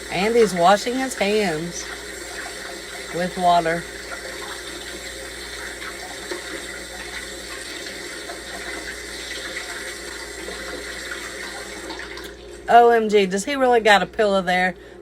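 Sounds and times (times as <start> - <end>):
hands washing under water: 0.0 - 12.6
tap water running into sink: 0.0 - 12.7.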